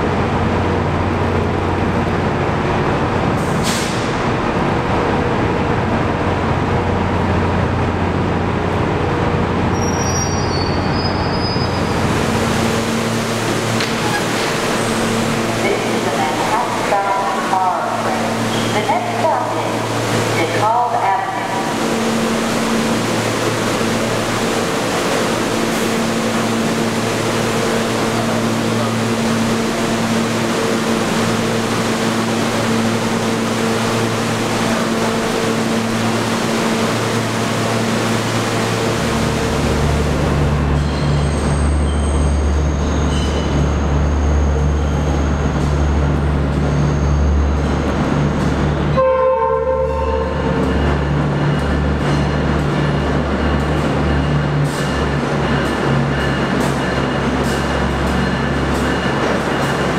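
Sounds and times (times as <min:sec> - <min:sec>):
deep rumble of moving train: 0:00.0 - 0:59.9
train electrical hum: 0:00.0 - 0:59.9.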